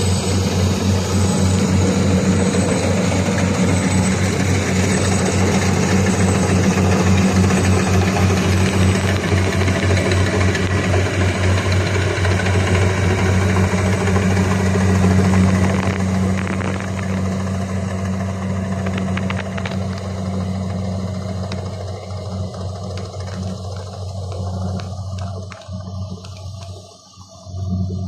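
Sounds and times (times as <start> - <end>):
harvester diesel engine droning: 0.0 - 28.0.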